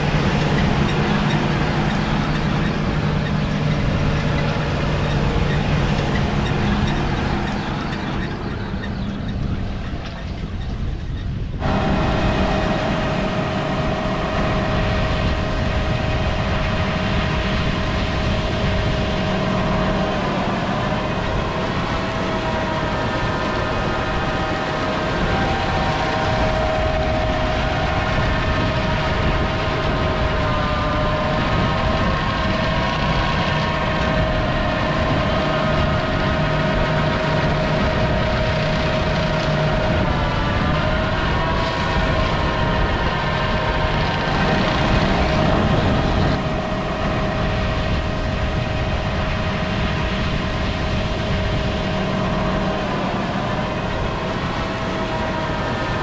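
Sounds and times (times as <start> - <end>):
diesel engine running: 0.0 - 56.0
machinery whining tones: 0.0 - 56.0.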